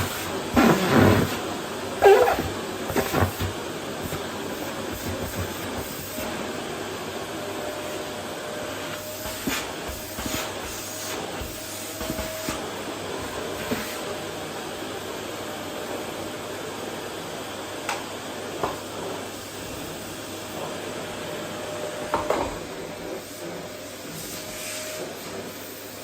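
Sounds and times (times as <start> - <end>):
vacuum cleaner on wooden floor: 0.0 - 26.0.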